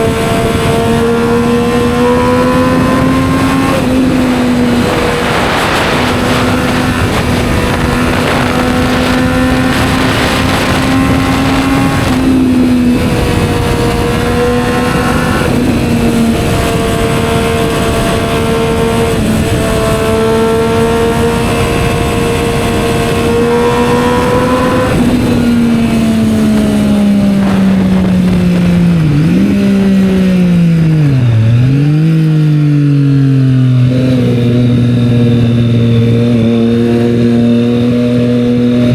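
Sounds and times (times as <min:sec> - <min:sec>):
wind rush: 0:00.0 - 0:32.0
motorcycle engine cruising: 0:00.0 - 0:38.9.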